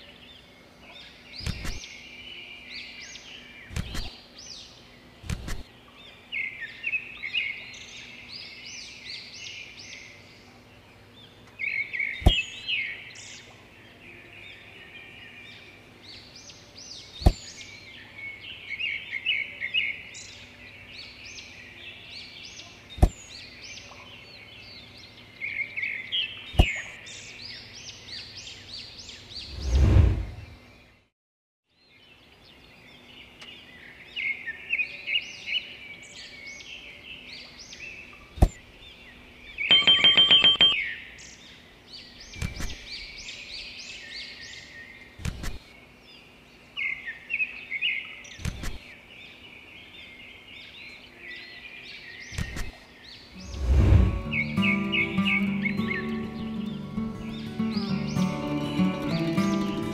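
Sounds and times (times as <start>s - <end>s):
small birds chirping: 0.0s - 31.1s, 31.7s - 59.9s.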